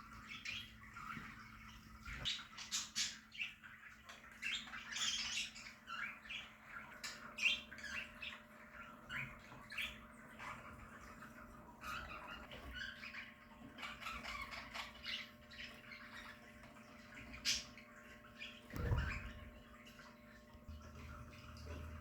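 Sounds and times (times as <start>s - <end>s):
budgerigars chirping: 0.1s - 19.5s.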